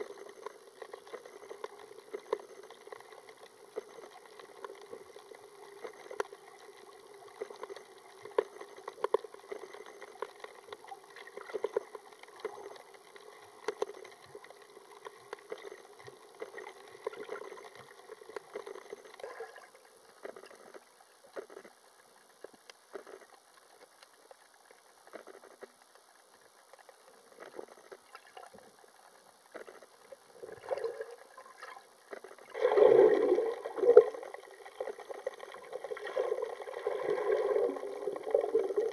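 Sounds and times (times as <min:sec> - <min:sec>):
faint steady hum: 0:00.0 - 0:38.9
underwater crackle of clicks: 0:00.0 - 0:38.9.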